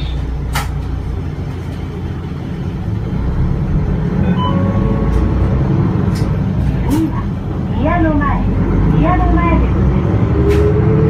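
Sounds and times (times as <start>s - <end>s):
bus diesel engine accelerating: 0.0s - 11.0s.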